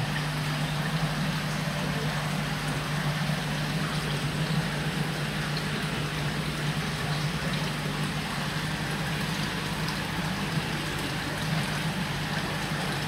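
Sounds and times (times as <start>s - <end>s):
water splashing and bubbling: 0.0s - 13.0s.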